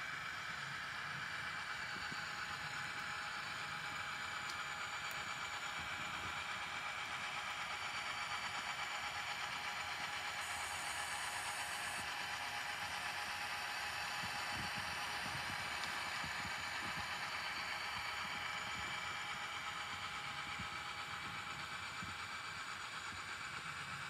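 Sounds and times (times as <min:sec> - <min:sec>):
model locomotive running noise: 0:00.0 - 0:24.0.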